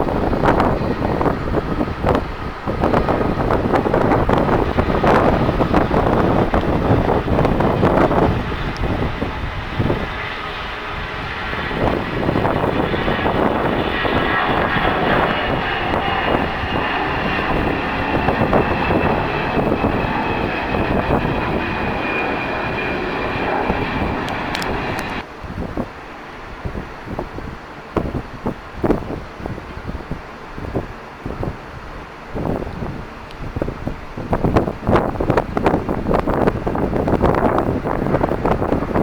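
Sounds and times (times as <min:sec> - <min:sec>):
airliner engines whining: 0:00.0 - 0:39.0.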